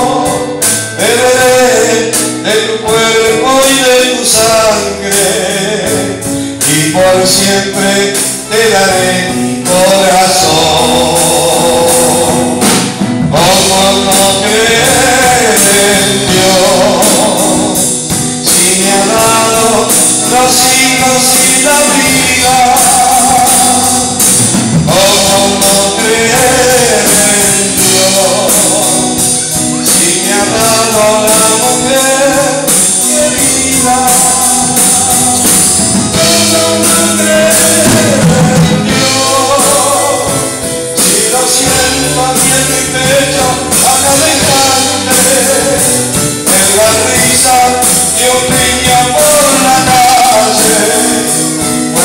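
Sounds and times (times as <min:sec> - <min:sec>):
drum kit with cymbals: 0:00.0 - 0:52.0
electric keyboard: 0:00.0 - 0:52.0
man singing through microphone: 0:00.0 - 0:52.0.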